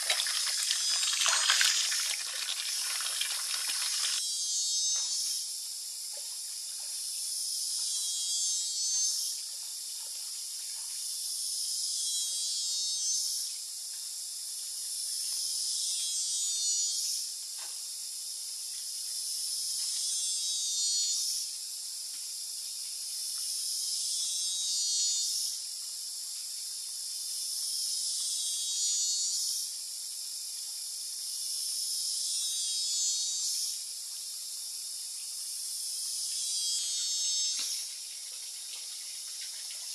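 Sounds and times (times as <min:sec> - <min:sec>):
cicadas buzzing: 0:00.0 - 0:06.2, 0:06.8 - 0:39.9.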